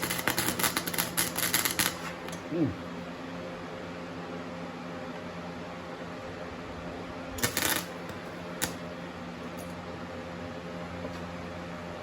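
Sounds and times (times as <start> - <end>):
welder cooling fan hum: 0.0 - 12.0.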